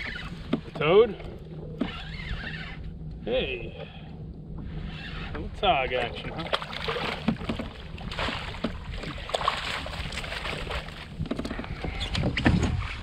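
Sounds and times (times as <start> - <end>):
water splashing and sloshing: 0.0 - 3.1, 3.7 - 13.0.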